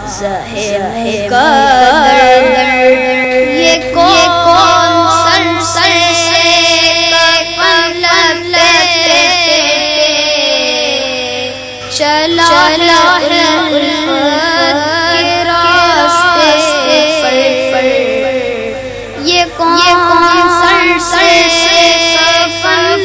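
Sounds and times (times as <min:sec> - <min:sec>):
boy singing devotional song: 0:00.0 - 0:23.0.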